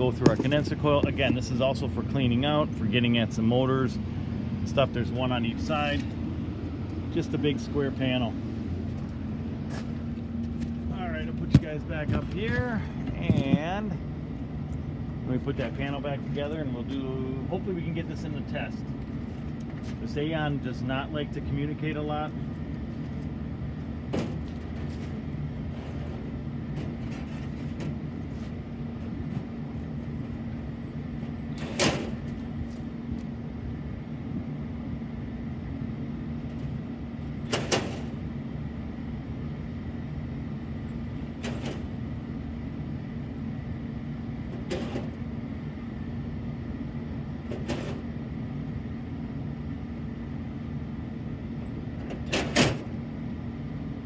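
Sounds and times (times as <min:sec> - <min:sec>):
machinery hum: 0:00.0 - 0:54.0.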